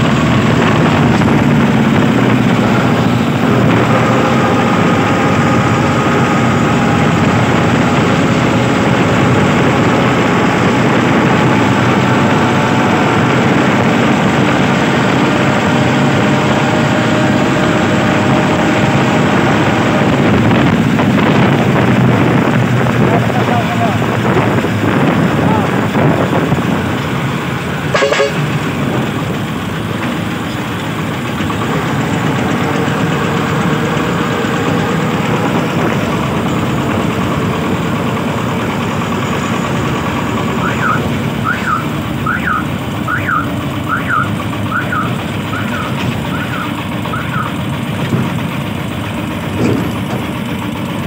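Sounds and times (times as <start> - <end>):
truck engine running: 0.0 - 51.0.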